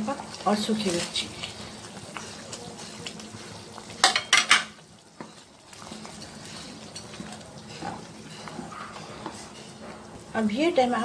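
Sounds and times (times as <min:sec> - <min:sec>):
curry bubbling: 0:00.0 - 0:11.0.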